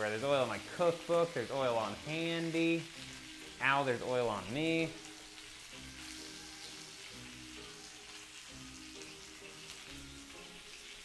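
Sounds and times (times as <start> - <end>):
background music: 0.0 - 11.0
fish sizzling in hot oil: 0.0 - 11.0.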